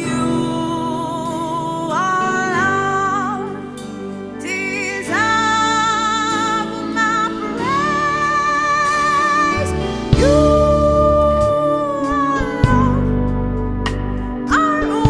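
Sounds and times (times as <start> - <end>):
sustained chords: 0.0 - 15.0
voice singing long wordless notes: 0.0 - 15.0.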